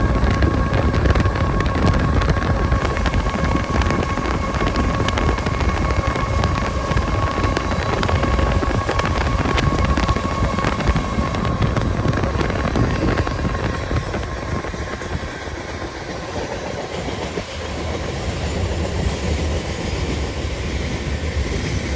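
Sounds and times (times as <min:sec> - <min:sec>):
steady whine: 0:00.0 - 0:21.4
train wheels rumbling on rails: 0:00.0 - 0:21.9.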